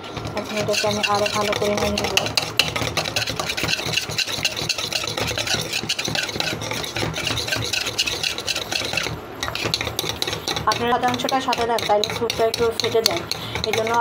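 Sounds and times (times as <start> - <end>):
utensil clattering against bowl: 0.0 - 14.0.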